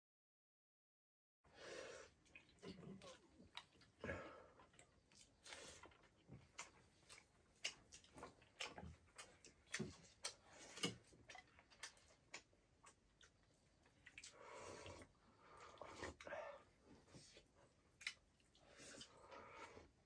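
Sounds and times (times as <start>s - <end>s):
people eating smacking: 2.1s - 19.9s.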